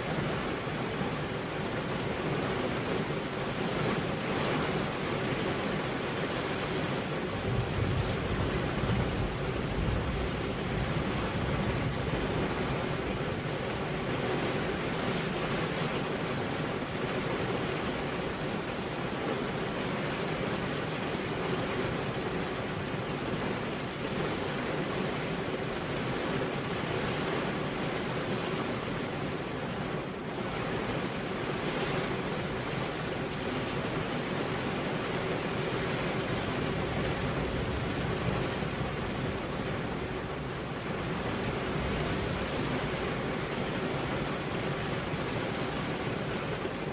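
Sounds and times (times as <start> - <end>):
heavy rain on a road: 0.0 - 46.9.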